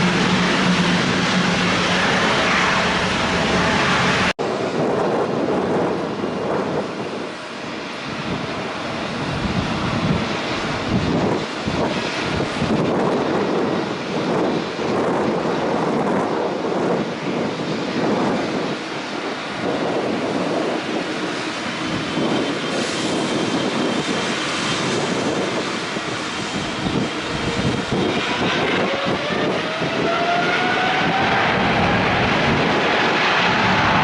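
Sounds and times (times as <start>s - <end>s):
jet engines roaring at takeoff: 0.0s - 34.0s.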